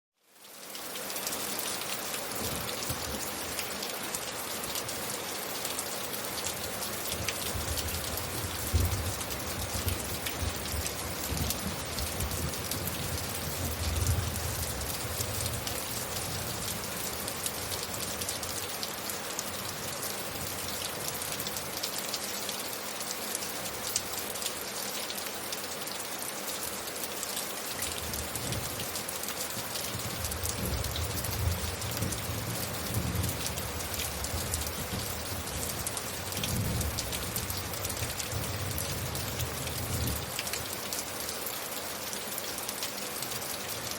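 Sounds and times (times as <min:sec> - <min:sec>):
rain falling: 0:00.2 - 0:43.9.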